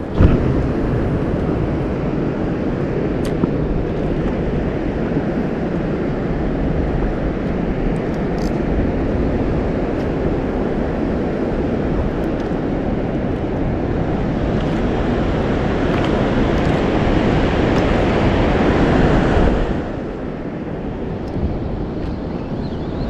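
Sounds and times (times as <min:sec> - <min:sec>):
water washing: 0:00.0 - 0:20.0
wind on microphone: 0:00.0 - 0:23.0.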